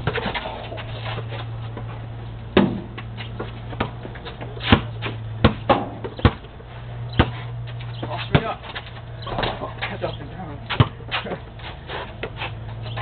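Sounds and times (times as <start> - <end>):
basketball bouncing on concrete: 0.0 - 13.0
steady low hum: 0.0 - 13.0.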